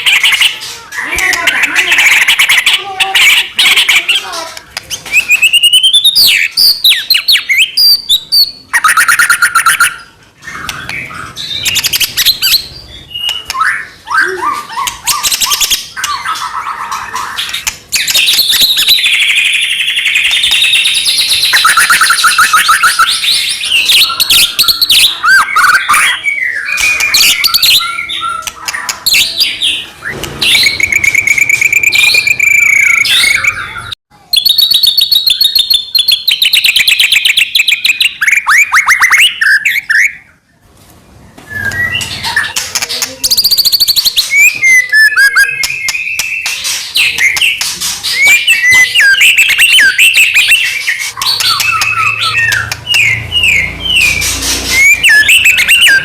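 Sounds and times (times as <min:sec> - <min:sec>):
songbird singing trills and whistles: 0:00.0 - 0:40.4, 0:41.4 - 0:56.0.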